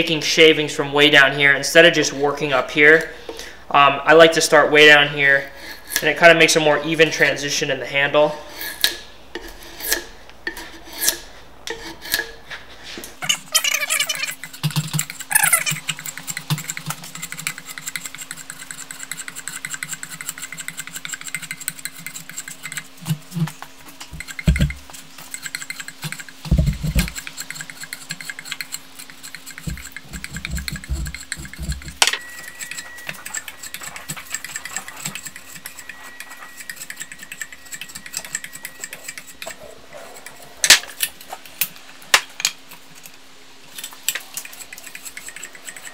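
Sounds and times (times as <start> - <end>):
steady low hum: 0.0 - 45.9
drawknife scraping wood: 5.4 - 6.2, 8.4 - 41.7, 42.4 - 45.9.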